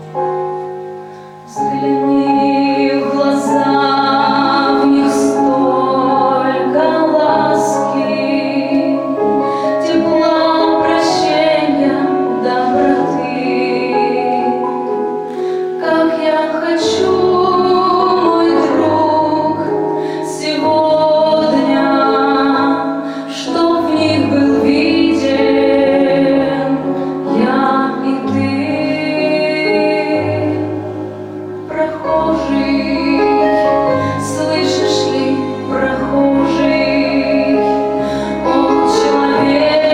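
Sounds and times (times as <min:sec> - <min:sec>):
instrumental accompaniment: 0:00.0 - 0:39.9
woman singing: 0:01.5 - 0:39.9.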